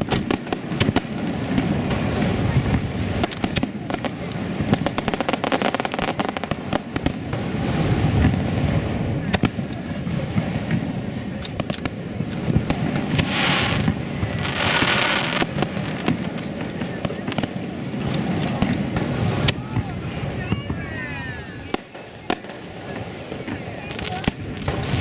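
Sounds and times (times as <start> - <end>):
firework shells bursting: 0.0 - 8.5, 9.2 - 22.8
hissing firework bursts: 0.0 - 25.0
low rumbling echo: 0.0 - 25.0.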